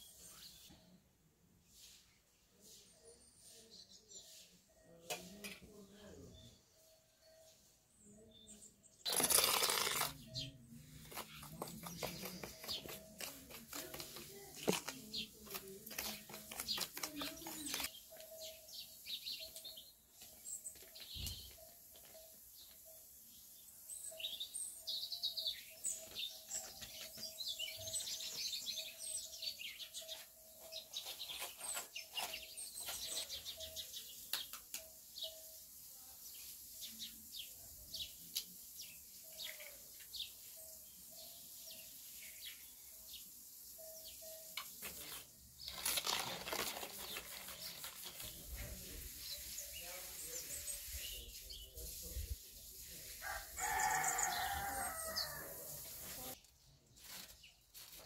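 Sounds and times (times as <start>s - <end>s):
birds chirping: 2.6s - 35.6s, 36.3s - 57.6s.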